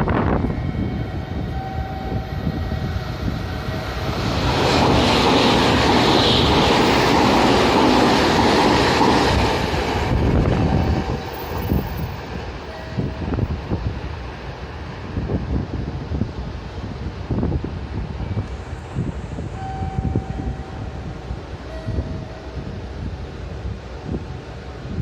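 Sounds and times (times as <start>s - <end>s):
train passing: 0.0s - 25.0s
wind on microphone: 0.0s - 25.0s.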